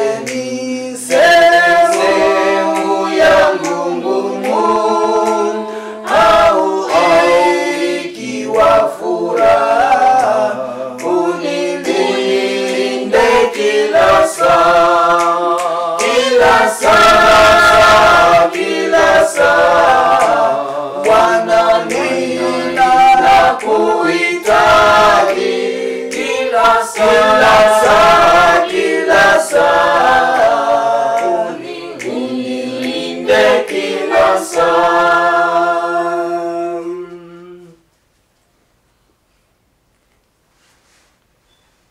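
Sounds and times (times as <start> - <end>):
choir singing a hymn a cappella: 0.0 - 37.8.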